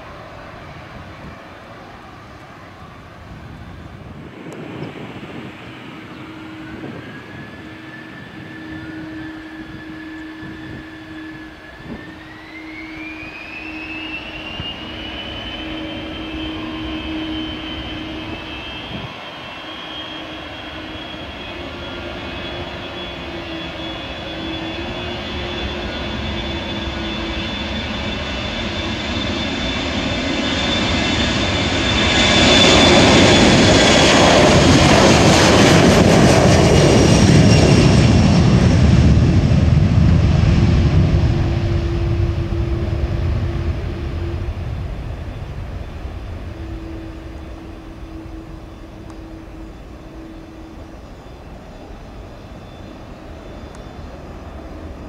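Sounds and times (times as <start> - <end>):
jet roar: 0.0 - 55.0
jet engines spooling up: 3.3 - 55.0.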